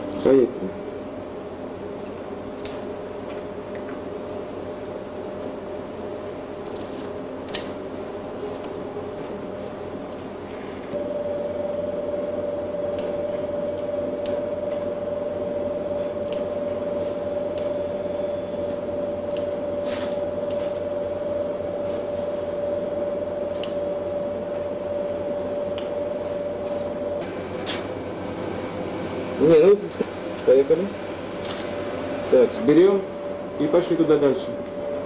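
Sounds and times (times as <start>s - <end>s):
laboratory equipment hum: 0.0s - 35.0s
mid-pitched whine: 0.0s - 35.0s.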